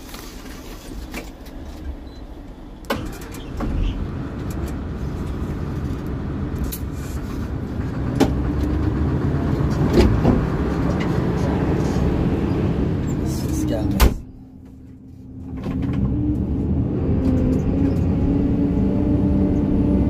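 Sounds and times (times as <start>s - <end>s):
excavator diesel engine running: 1.6s - 20.0s.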